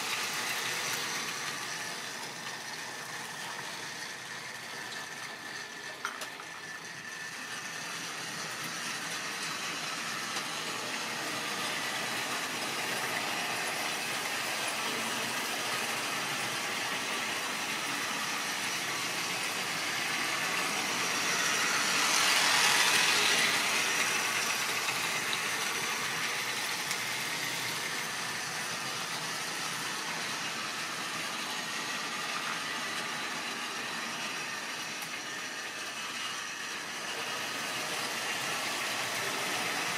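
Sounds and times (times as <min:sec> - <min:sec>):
model trains whirring and rattling: 0:00.0 - 0:39.9.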